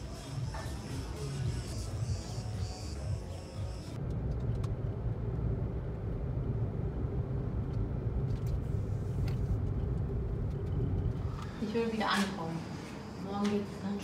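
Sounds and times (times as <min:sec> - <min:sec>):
car engine and road rumble: 0:00.0 - 0:13.6.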